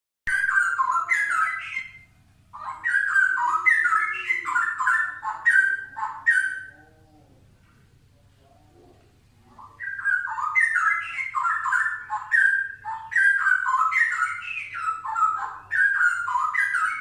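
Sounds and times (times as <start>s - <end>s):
bird singing whistled phrases: 0.3s - 6.8s, 9.6s - 17.0s.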